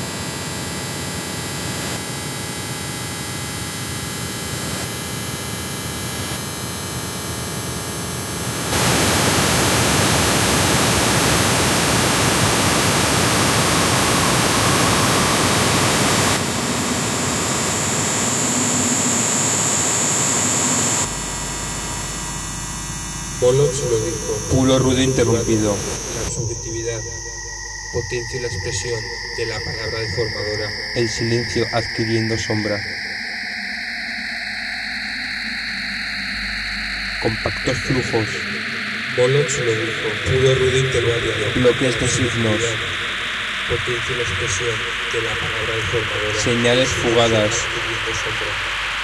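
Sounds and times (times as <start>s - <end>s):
steady high whine: 0.0s - 49.0s
harsh electronic noise music: 8.2s - 49.0s.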